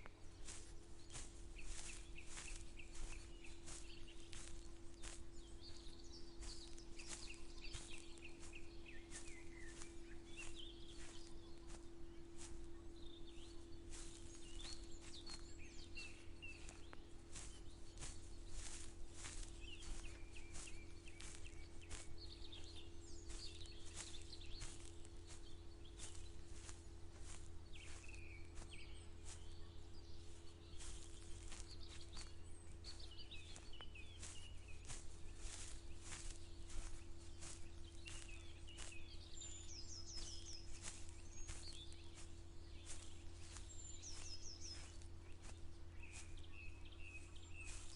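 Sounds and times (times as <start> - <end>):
footsteps walking: 0.0 - 47.9
small birds chirping: 0.0 - 47.9.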